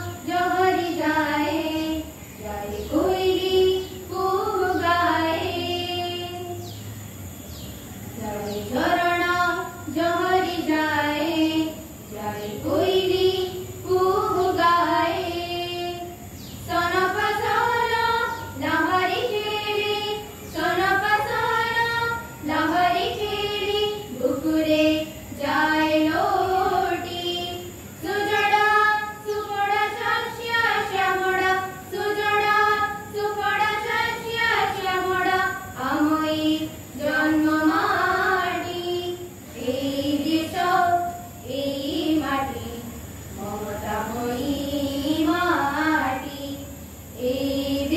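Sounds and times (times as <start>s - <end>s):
children singing into microphones: 0.0s - 6.8s, 8.2s - 47.9s.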